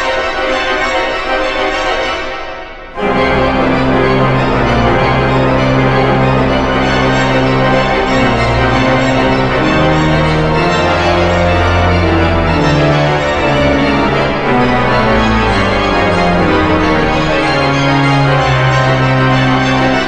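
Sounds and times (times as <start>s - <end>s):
pipe organ playing a toccata: 0.0s - 20.0s.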